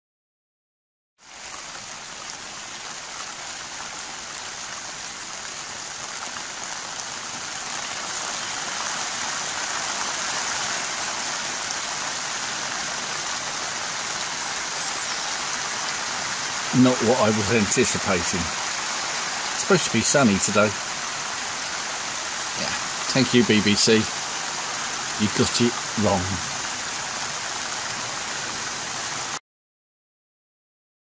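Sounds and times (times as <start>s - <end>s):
steady rain falling: 1.2s - 29.4s.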